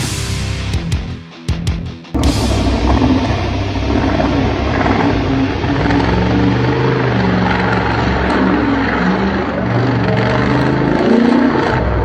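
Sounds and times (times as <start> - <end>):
truck engine revving: 2.2 - 12.0.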